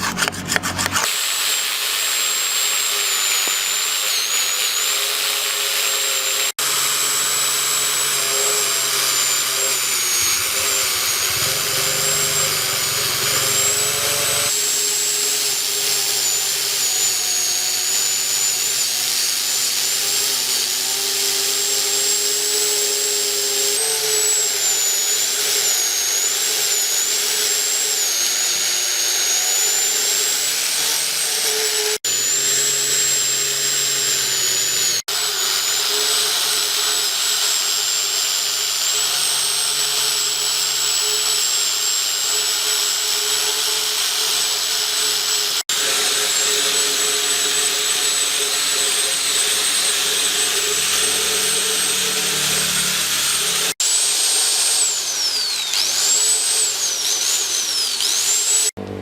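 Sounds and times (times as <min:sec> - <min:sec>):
electric power tool whine: 0:00.0 - 0:59.0.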